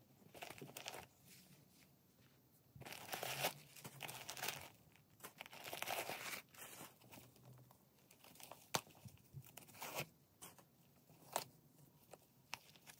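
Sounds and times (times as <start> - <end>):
paper crinkling and rustling: 0.2 - 1.9, 2.8 - 12.9.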